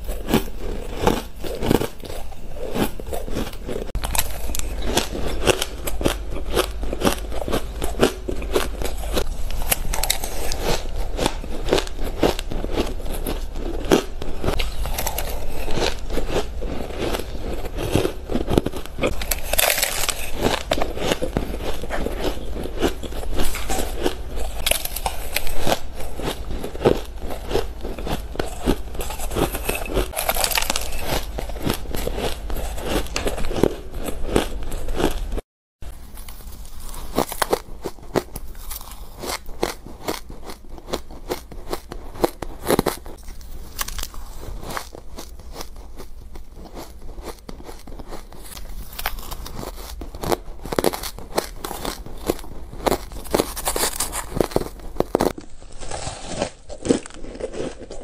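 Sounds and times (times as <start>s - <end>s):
crunching shaved ice: 0.0s - 35.2s, 36.1s - 58.0s.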